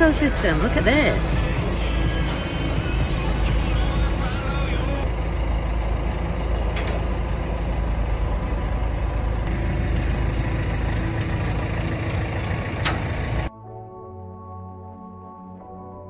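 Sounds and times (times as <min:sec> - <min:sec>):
heavy engine idling: 0:00.0 - 0:13.5.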